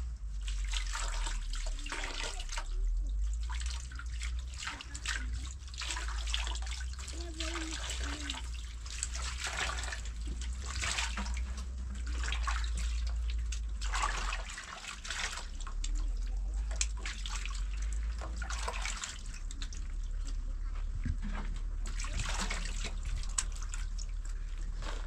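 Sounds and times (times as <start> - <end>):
steady low rumble: 0.0 - 25.0
water running and splashing: 0.2 - 20.5, 21.8 - 25.0.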